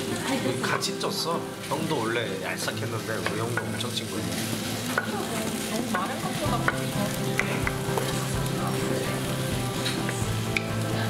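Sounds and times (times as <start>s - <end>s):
rice sizzling on a griddle: 0.0s - 11.0s.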